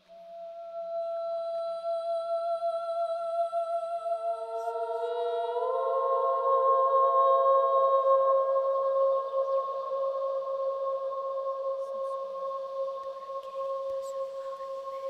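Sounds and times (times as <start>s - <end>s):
electroacoustic held voice-like tones: 0.0s - 15.0s.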